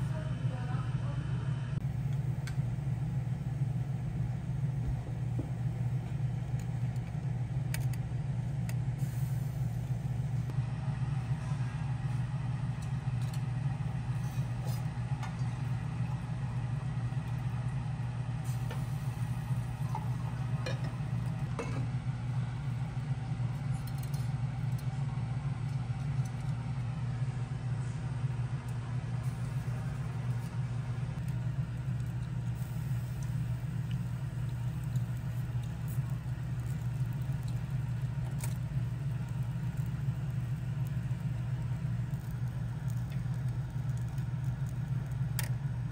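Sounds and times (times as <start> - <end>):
grill motor humming: 0.0 - 45.9.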